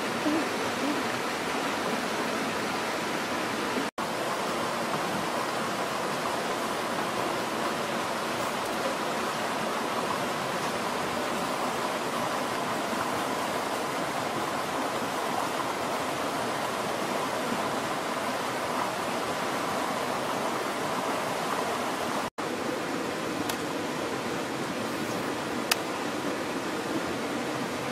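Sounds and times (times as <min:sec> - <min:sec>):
rushing hiss of outdoor ambience: 0:00.0 - 0:27.9.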